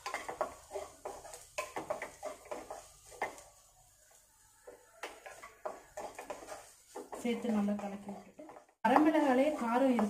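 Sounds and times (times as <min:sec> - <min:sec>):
spatula scraping a pan: 0:00.0 - 0:10.0.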